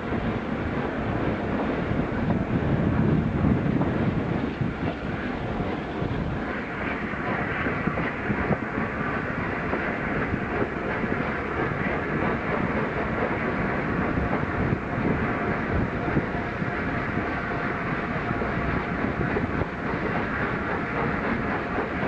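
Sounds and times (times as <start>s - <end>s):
steam train rumbling: 0.0s - 22.0s
wheels clicking on rails: 0.0s - 22.0s.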